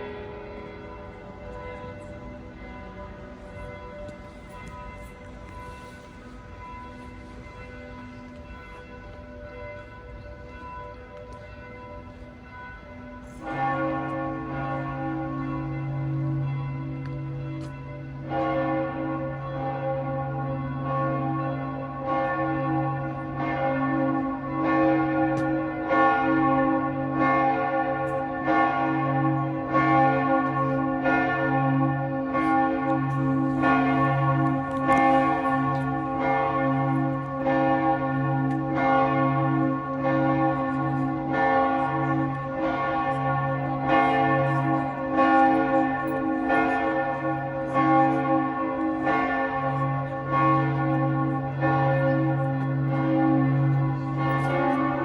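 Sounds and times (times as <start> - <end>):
church bells ringing: 0.0 - 55.0
deep hum of large bell: 0.0 - 55.0.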